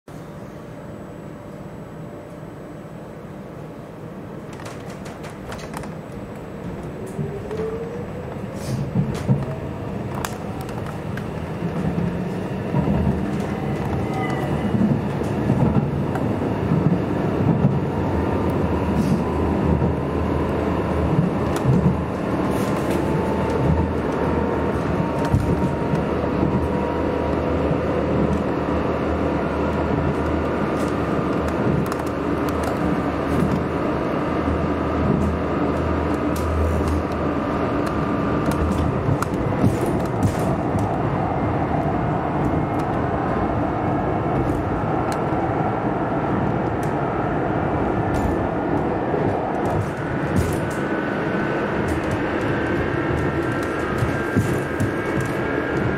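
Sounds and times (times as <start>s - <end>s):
vehicle engine rumbling: 4.4s - 55.9s.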